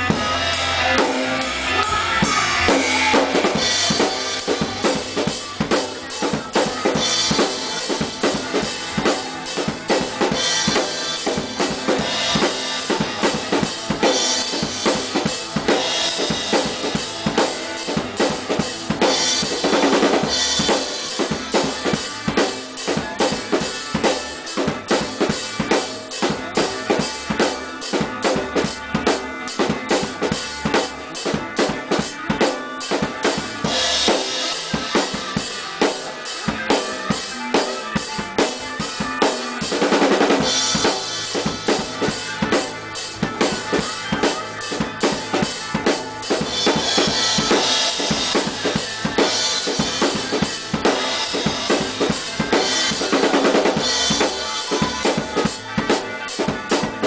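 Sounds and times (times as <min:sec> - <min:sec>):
acoustic drum kit played fast: 0:00.0 - 0:57.0.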